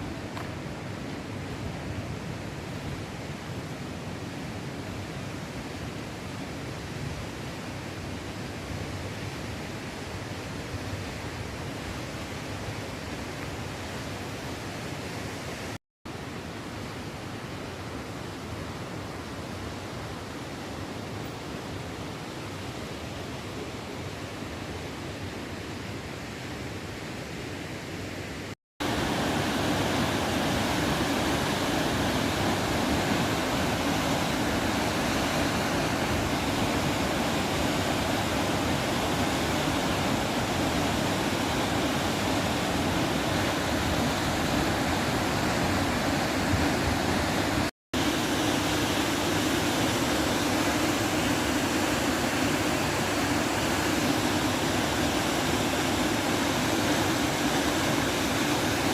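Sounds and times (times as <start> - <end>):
stream water rushing: 0.0 - 58.9.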